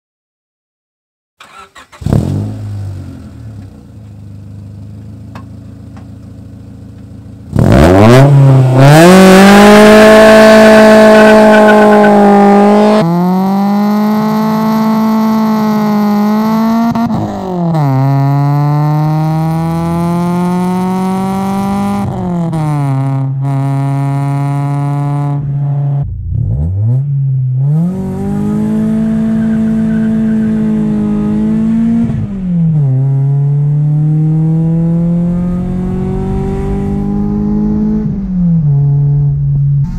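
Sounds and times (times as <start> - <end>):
car engine revving: 1.4 - 39.9.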